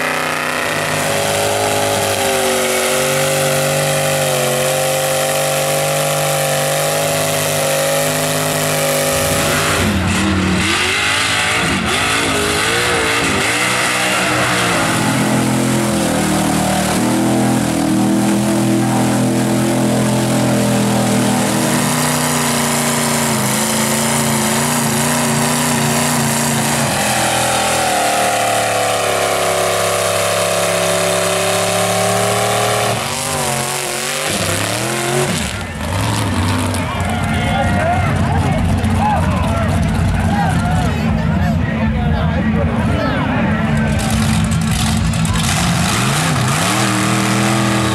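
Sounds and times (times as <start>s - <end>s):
truck engines revving in mud: 0.0s - 47.9s.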